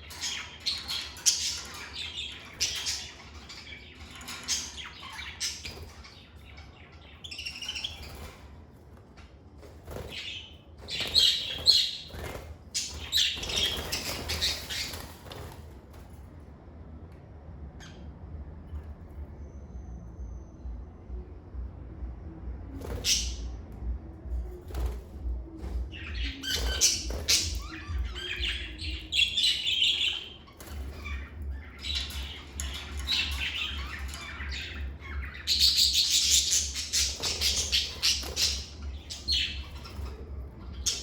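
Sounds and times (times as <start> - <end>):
lovebirds chirping and squawking: 0.0 - 16.1, 22.8 - 23.7, 24.4 - 41.0.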